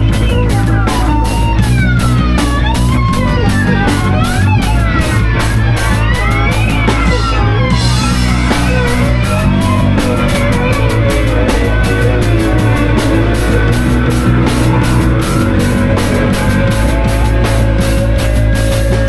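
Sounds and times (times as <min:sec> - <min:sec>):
drum kit: 0:00.0 - 0:19.0
electric guitar bending notes: 0:00.0 - 0:19.0
low bass: 0:00.0 - 0:19.0.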